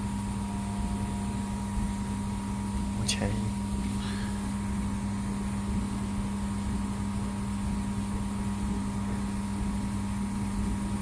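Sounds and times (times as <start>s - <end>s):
laser welding machine humming: 0.0s - 11.0s.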